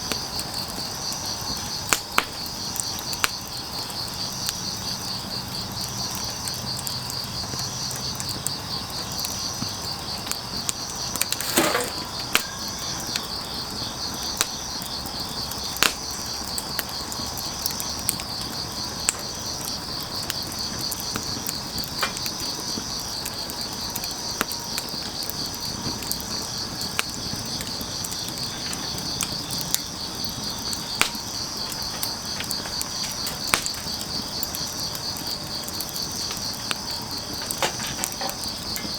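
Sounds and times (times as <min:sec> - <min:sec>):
crickets trilling: 0:00.0 - 0:38.9
wood fire crackling: 0:00.0 - 0:38.9.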